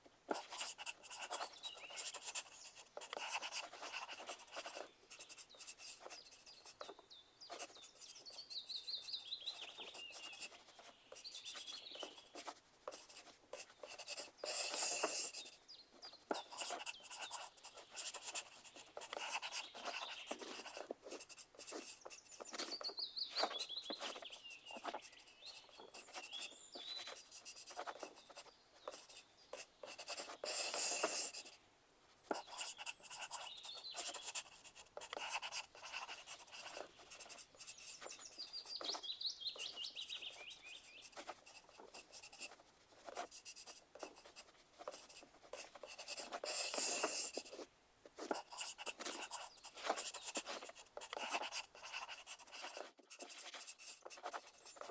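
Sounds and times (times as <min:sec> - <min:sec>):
pencil scratching on paper: 0:00.3 - 0:15.6, 0:16.2 - 0:31.6, 0:32.3 - 0:39.0, 0:39.6 - 0:54.9
bird chirping: 0:00.4 - 0:31.5, 0:32.3 - 0:42.4, 0:48.4 - 0:52.8.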